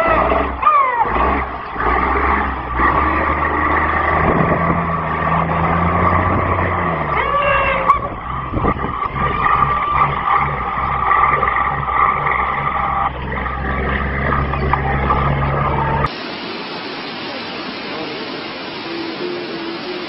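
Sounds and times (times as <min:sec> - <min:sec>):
fire engine engine running: 0:00.0 - 0:20.0.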